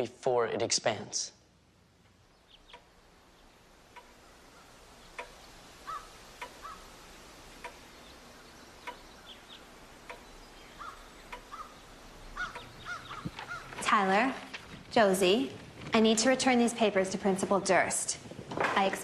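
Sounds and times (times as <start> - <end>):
faint regular ticking: 1.6 - 16.9.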